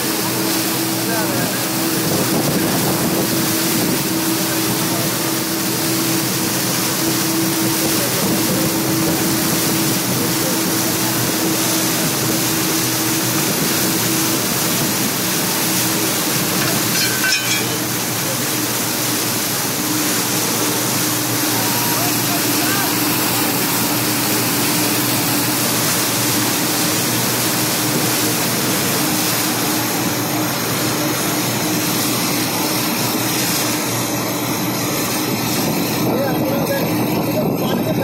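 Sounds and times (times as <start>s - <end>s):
floodwater rushing and splashing: 0.0s - 38.0s.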